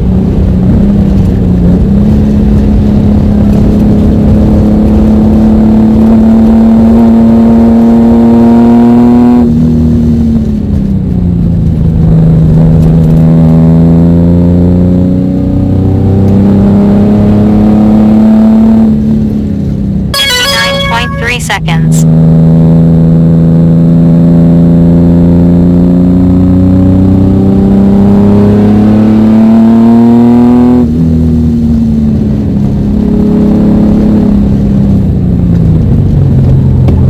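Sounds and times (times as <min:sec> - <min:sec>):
car engine under hard throttle: 0:00.0 - 0:19.0, 0:23.1 - 0:37.0.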